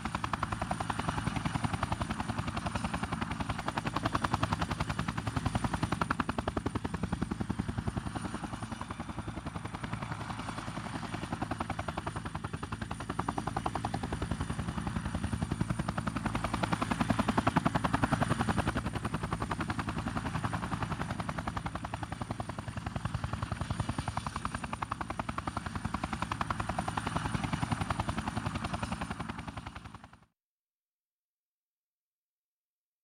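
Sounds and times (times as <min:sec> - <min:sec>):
helicopter rotor beating: 0:00.0 - 0:30.2.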